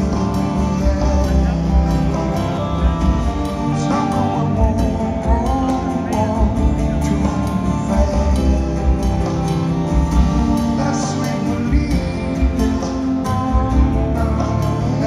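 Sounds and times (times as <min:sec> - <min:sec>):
electric bass: 0:00.0 - 0:15.0
strummed acoustic guitar: 0:00.0 - 0:15.0.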